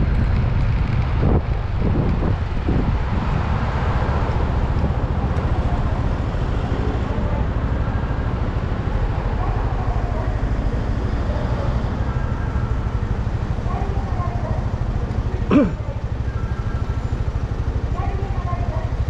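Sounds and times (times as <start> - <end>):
road noise: 0.0 - 19.0
scooter engine running: 0.0 - 19.0.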